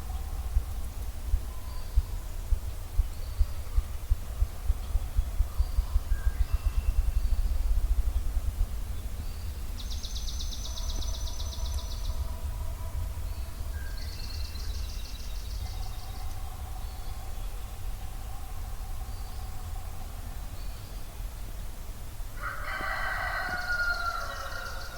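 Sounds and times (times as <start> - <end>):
low rumble: 0.0 - 20.6
songbirds singing: 0.0 - 24.9.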